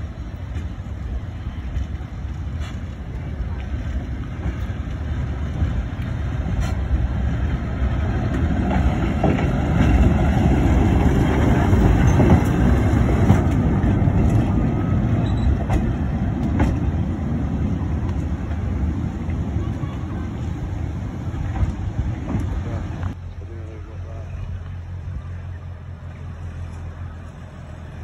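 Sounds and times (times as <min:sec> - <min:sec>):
tram rumbling on rails: 0:00.0 - 0:28.0
wheels clacking on track: 0:00.0 - 0:28.0.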